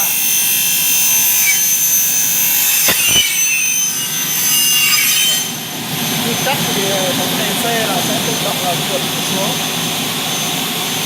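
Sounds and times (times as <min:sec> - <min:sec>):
saw whining through aluminium: 0:00.0 - 0:11.0.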